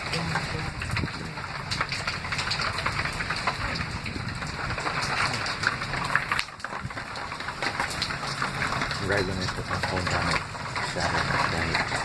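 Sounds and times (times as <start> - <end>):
rain falling: 0.0 - 12.0
raindrops striking hard surfaces: 0.0 - 12.0.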